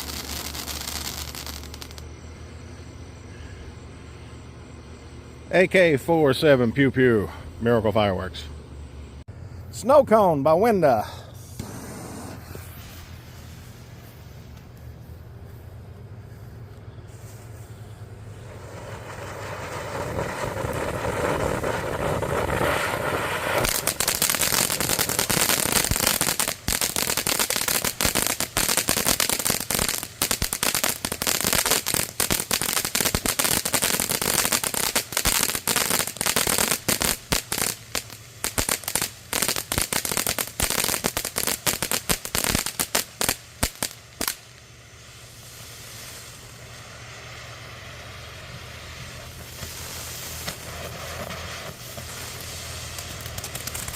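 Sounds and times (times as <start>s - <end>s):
firework crackling: 0.0s - 3.4s, 10.6s - 53.9s
firework fountain hissing: 0.0s - 6.4s, 10.6s - 53.9s.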